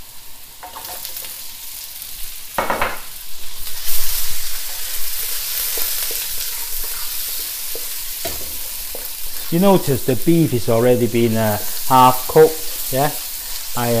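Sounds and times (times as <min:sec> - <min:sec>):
onion sizzling in hot oil: 0:00.0 - 0:14.0.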